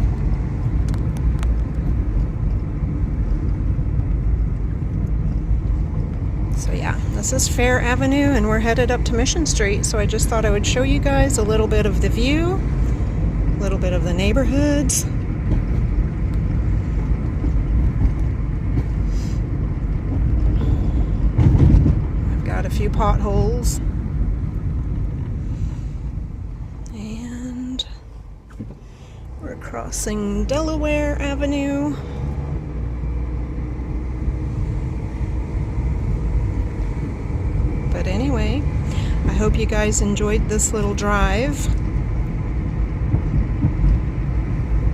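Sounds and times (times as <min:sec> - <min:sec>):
road and engine rumble: 0:00.0 - 0:44.9.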